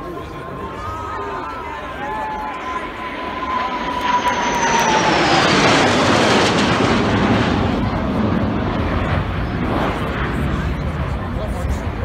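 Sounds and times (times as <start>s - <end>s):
jets roaring overhead: 0.0s - 12.0s.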